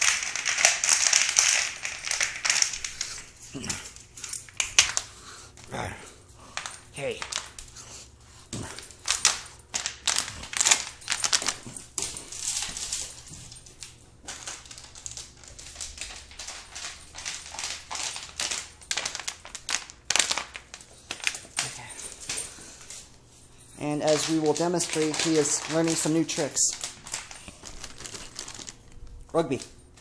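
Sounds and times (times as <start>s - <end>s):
dog claws clicking on wooden floor: 0.0s - 5.7s, 6.4s - 7.8s, 8.5s - 22.8s, 23.8s - 29.8s.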